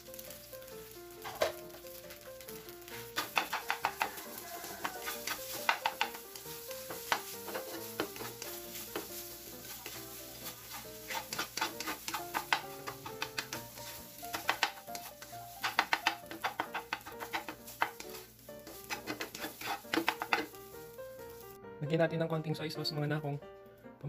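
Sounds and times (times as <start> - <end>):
rice sizzling in a pan: 0.0 - 21.6
plucked background music: 0.0 - 24.0
spatula scraping a pan: 1.2 - 21.4.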